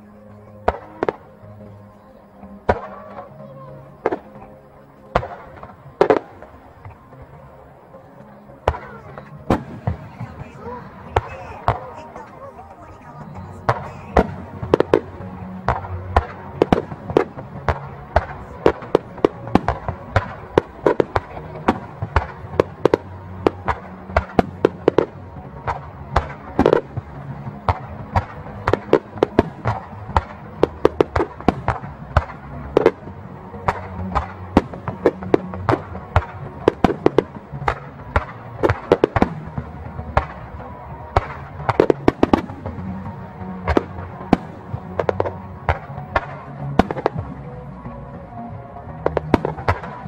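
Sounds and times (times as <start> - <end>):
fireworks bursting with sharp bangs: 0.0 - 50.0.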